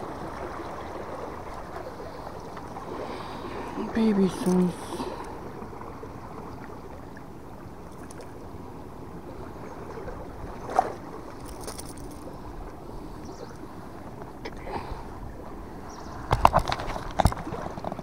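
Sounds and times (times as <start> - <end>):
sea and wind noise: 0.0 - 18.0.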